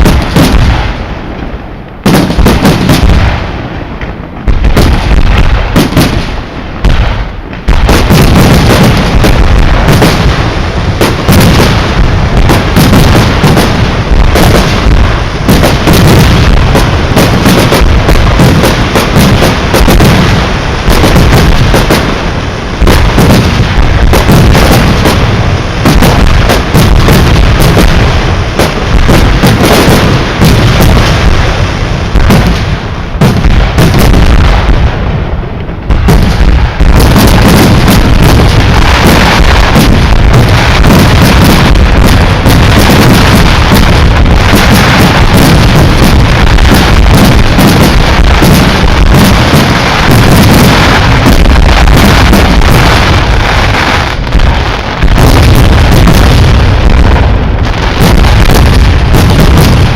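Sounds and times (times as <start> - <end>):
fireworks bursts and booms: 0.0 - 59.9.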